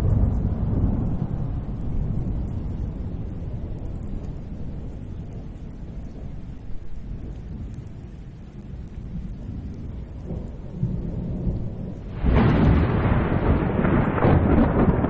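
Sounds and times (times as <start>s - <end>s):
low steady rumble: 0.0s - 14.8s.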